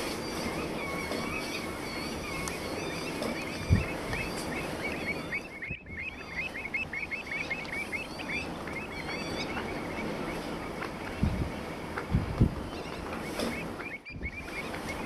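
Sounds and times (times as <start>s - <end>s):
birds calling in short hooked notes: 0.0s - 15.0s
low background noise: 0.0s - 15.0s.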